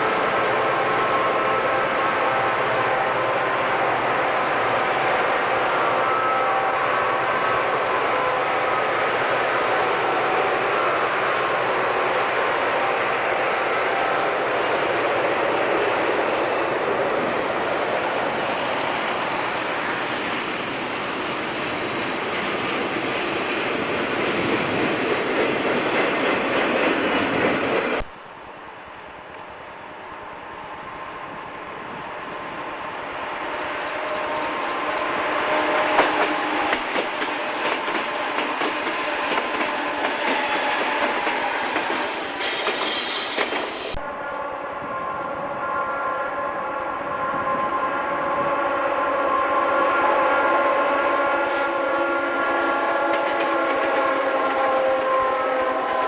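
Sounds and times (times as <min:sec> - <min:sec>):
train rolling past: 0:00.0 - 0:56.0.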